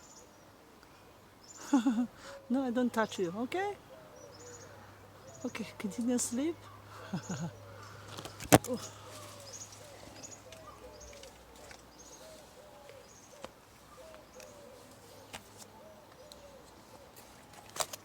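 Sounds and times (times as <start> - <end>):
low arching bird call: 0.0 - 17.6.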